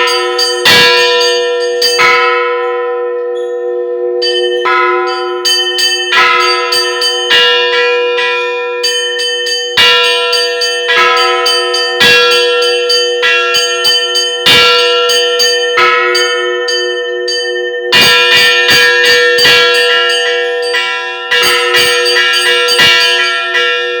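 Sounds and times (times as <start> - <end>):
heavy church bell tolling: 0.0 - 24.0
small church bells ringing: 0.0 - 24.0.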